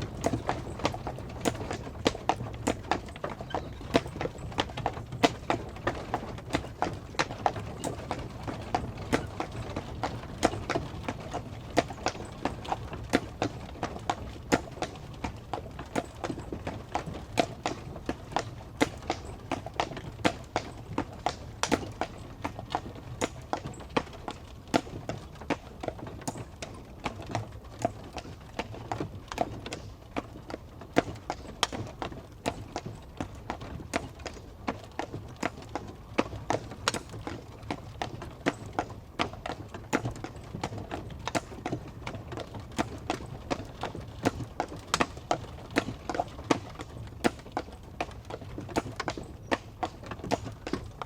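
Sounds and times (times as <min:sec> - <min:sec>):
horse hooves clip-clopping: 0:00.0 - 0:51.0
low rumble of carriage: 0:00.0 - 0:51.0.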